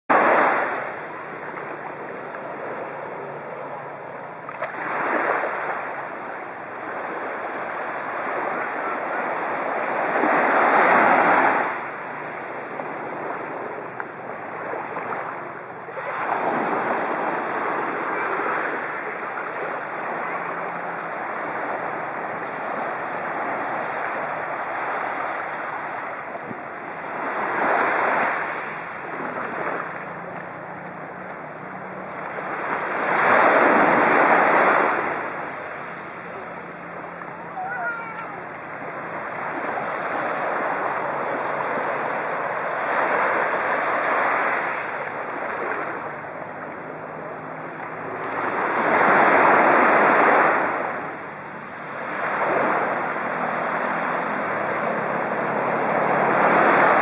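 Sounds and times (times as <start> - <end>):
sea waves washing onto beach: 0.1 - 57.0.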